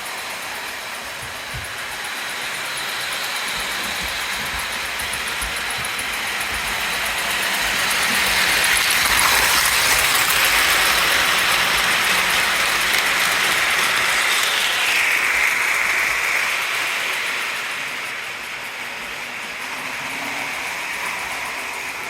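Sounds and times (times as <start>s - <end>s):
model train motor whirring: 0.0s - 22.0s
train wheels on rails: 0.0s - 22.0s.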